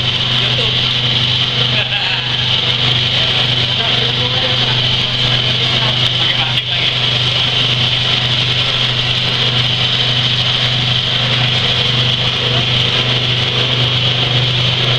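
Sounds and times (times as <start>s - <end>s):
vibrating sifter motor humming: 0.0s - 14.9s.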